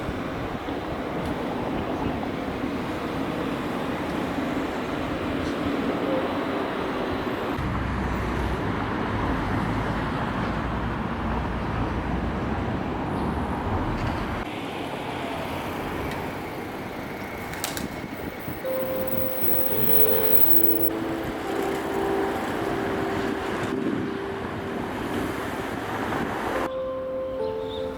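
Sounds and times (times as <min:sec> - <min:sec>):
road traffic noise: 0:00.0 - 0:27.9.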